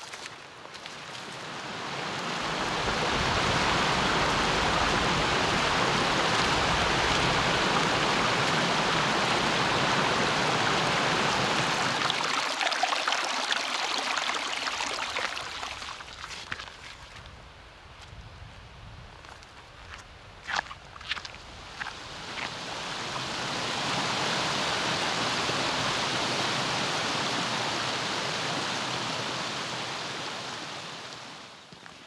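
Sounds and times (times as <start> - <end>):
rushing river water: 0.0 - 17.3, 20.4 - 32.0.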